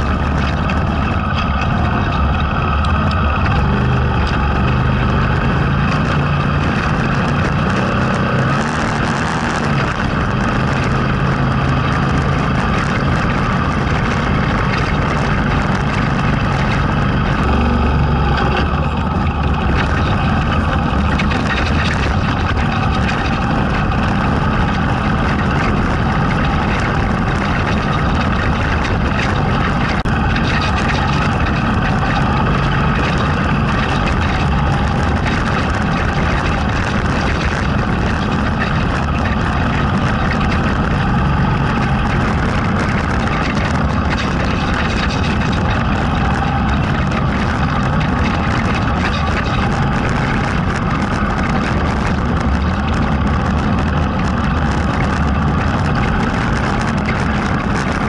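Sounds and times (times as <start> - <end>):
tyres rumbling on gravel: 0.0 - 58.0
vehicle engine running: 0.0 - 58.0
wind noise: 0.0 - 58.0.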